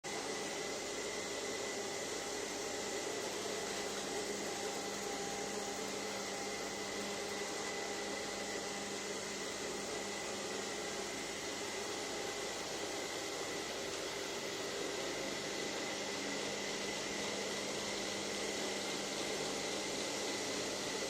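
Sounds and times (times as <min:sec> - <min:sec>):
robot vacuum motor humming: 0:00.1 - 0:21.0.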